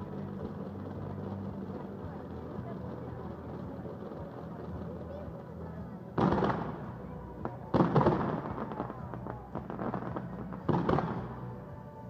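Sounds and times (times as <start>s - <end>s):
fireworks banging: 0.0s - 11.8s
fireworks crackling: 0.0s - 12.0s.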